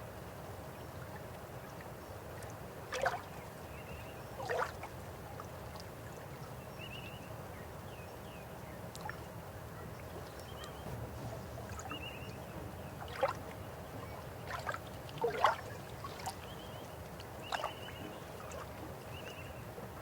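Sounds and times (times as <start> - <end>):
river water flowing: 0.0 - 6.6, 8.8 - 20.0.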